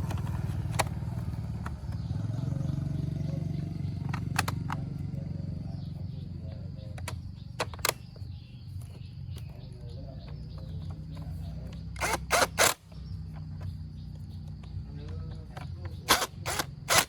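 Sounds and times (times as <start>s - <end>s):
sharp metallic clicks: 0.0s - 17.0s
small motorcycle engine idling: 0.0s - 17.0s.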